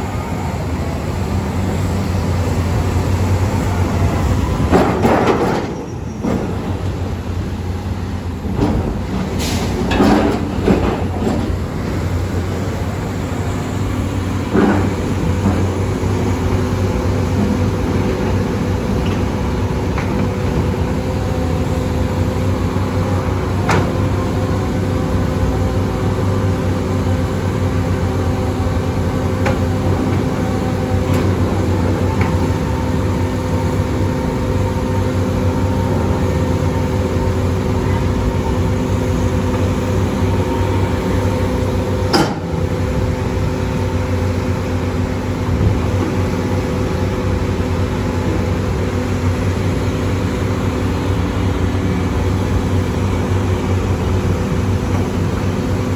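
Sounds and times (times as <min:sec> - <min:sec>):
diesel construction machinery running: 0:00.0 - 0:55.9.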